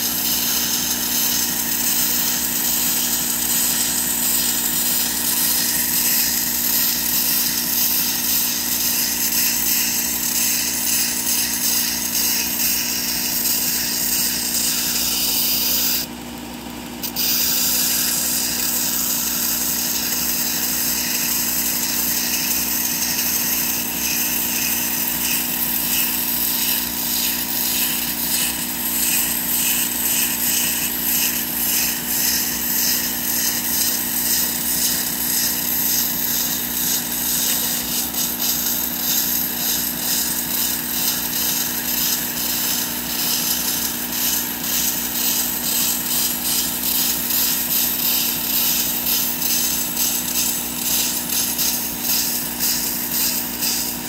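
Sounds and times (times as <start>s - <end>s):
knife grinding on belt: 0.0s - 16.1s, 17.0s - 54.0s
belt sander motor hum: 0.0s - 54.0s.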